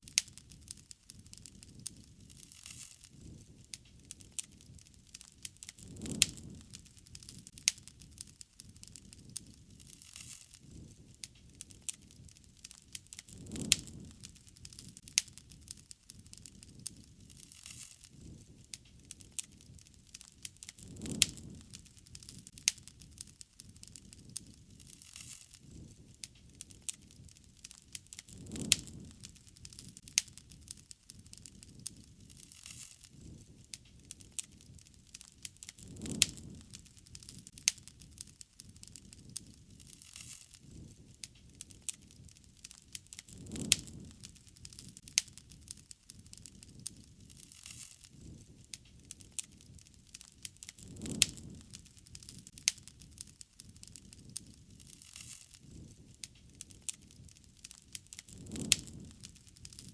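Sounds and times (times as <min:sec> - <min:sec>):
campfire crackling and popping: 0:00.0 - 0:59.9
low rumble of burning flames: 0:00.0 - 0:59.9.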